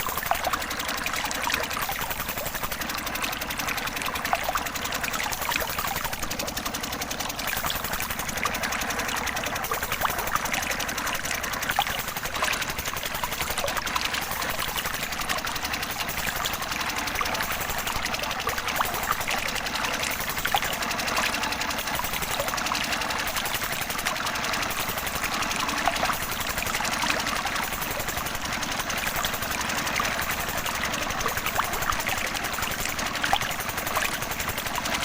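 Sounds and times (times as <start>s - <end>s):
small water pump motor rattling: 0.0s - 35.0s.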